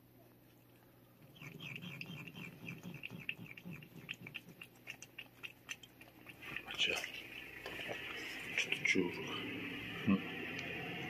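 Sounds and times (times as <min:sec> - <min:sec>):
cat licking: 0:00.5 - 0:10.8.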